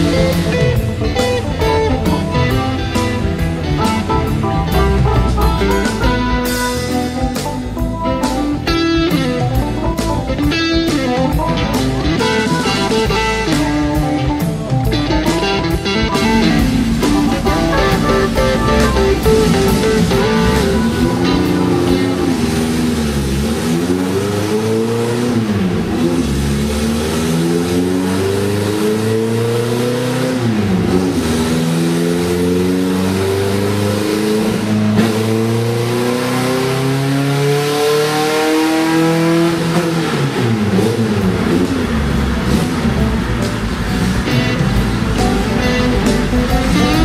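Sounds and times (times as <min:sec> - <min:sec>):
car engine revving hard: 0:00.0 - 0:07.9, 0:08.7 - 0:47.0.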